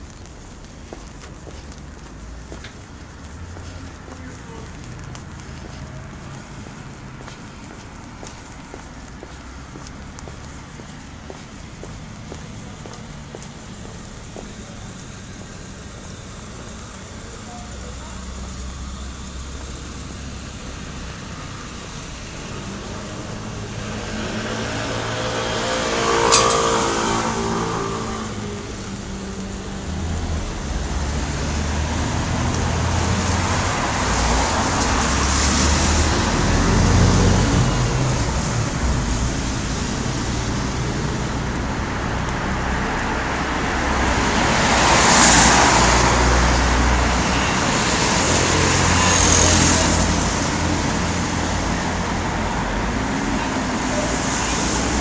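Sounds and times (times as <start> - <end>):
cars passing on wet road: 0.0 - 55.0
vehicle engine passing close: 0.0 - 55.0.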